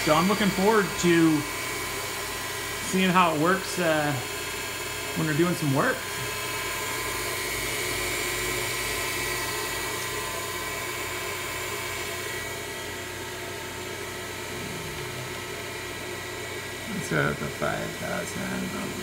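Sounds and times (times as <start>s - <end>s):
milling machine spindle whine: 0.0s - 19.0s.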